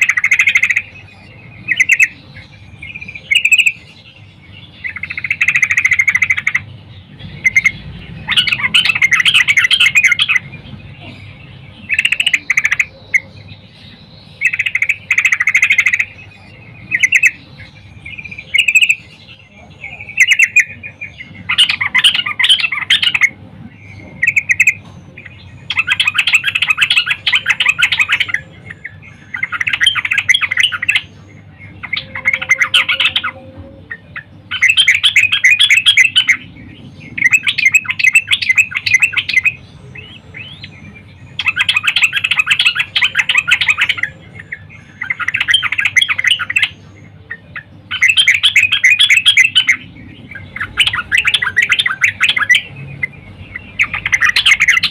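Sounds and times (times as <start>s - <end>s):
bulbul chattering song: 0.0s - 54.9s.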